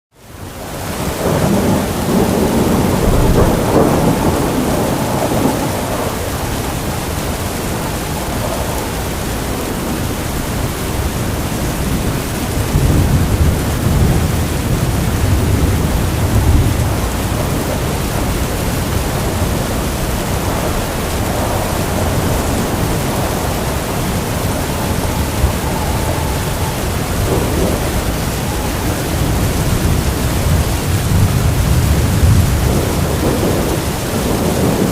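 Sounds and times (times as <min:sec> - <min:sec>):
heavy rain pouring: 0:00.1 - 0:34.9
deep rolling thunder: 0:00.6 - 0:34.9.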